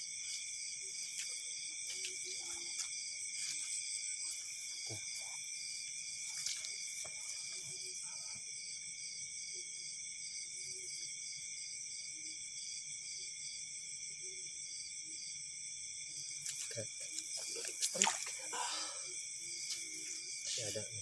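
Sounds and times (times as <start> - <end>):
night insects trilling: 0.0 - 21.0
pulsing insect call: 0.0 - 21.0.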